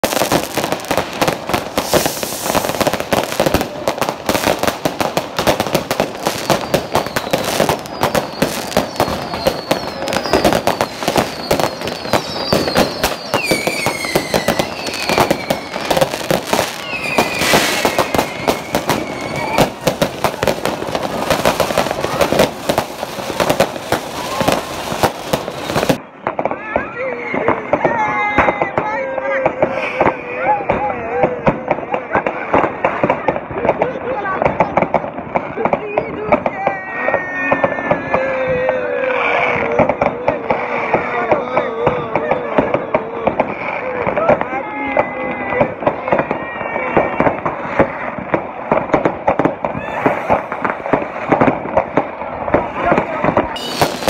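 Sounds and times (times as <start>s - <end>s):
whistling rockets: 0.0s - 33.7s, 35.6s - 54.0s
fireworks bangs and crackling: 0.0s - 54.0s.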